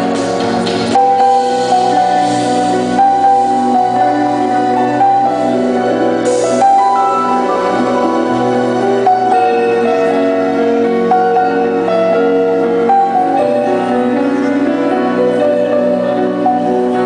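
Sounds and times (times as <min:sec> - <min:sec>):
gentle instrumental piano music: 0:00.0 - 0:17.0.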